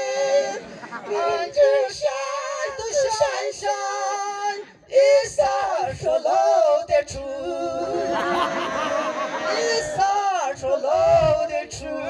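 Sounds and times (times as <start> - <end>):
man and woman singing: 0.0 - 12.0.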